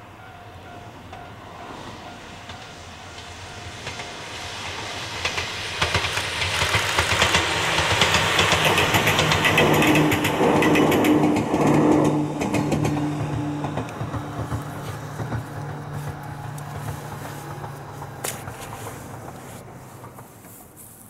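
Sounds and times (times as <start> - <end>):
electric train passing: 0.0 - 21.0
wheels clacking over rail joints: 0.7 - 21.0.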